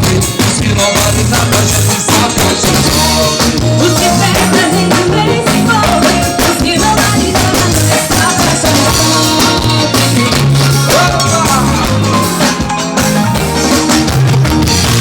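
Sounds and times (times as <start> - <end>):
bass line: 0.0 - 15.0
drum kit beat: 0.0 - 15.0
live band playing: 0.0 - 15.0.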